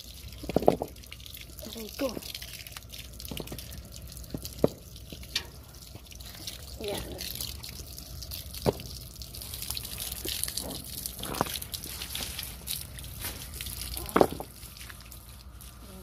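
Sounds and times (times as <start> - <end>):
water spraying onto paving: 0.0 - 16.0.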